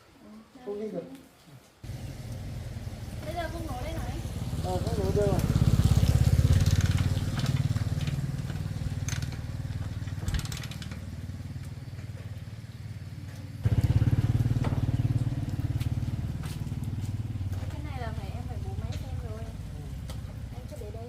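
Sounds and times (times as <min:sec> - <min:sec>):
motorcycle engine running: 0:01.8 - 0:21.0.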